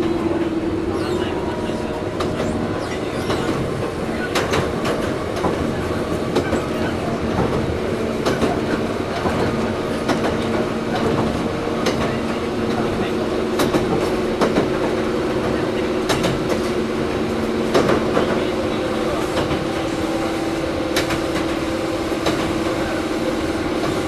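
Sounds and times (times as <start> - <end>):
train running gear hum: 0.0 - 24.0.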